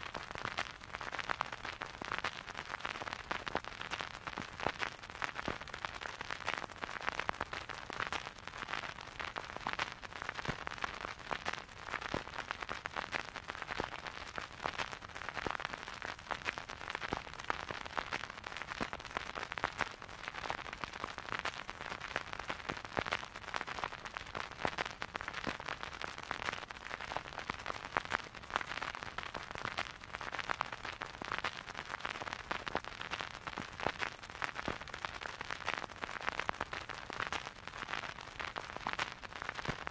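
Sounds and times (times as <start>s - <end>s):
vinyl record crackle and hiss: 0.0s - 39.9s.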